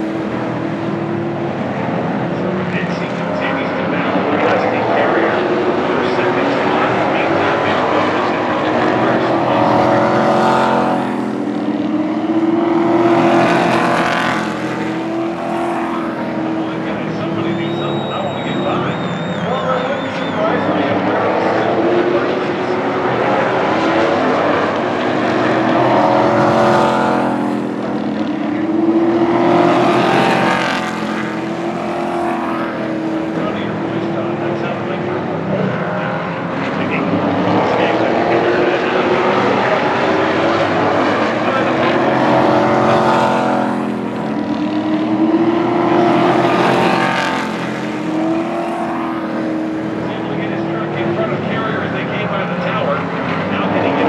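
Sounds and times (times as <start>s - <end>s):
race truck engines racing: 0.0s - 54.0s.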